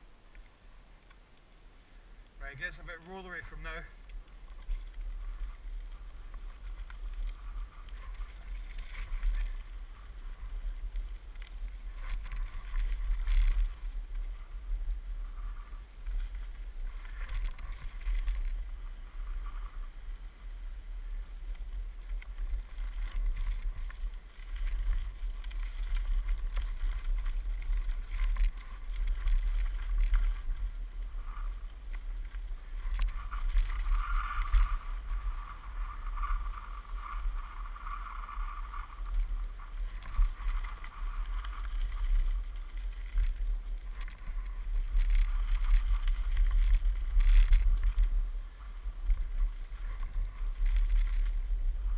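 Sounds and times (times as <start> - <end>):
board wheels rumbling over rough ground: 0.0 - 51.9.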